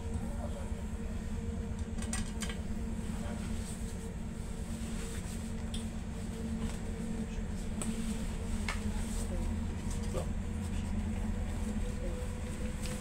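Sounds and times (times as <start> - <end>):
train interior low rumble: 0.0 - 13.0.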